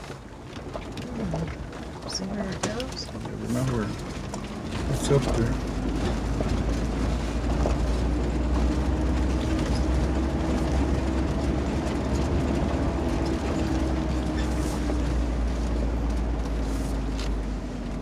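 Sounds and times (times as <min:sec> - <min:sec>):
faint engine hum: 0:00.0 - 0:18.0
tyres crunching on loose stones: 0:00.0 - 0:18.0
vehicle cabin rumble: 0:00.0 - 0:18.0.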